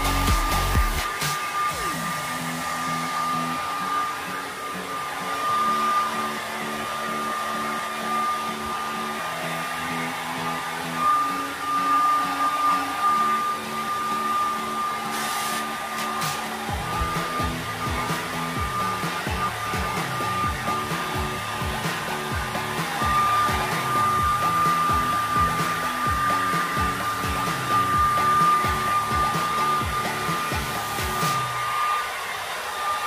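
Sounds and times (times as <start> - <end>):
background music with beat: 0.0 - 31.8
hair dryer whining: 0.0 - 33.0.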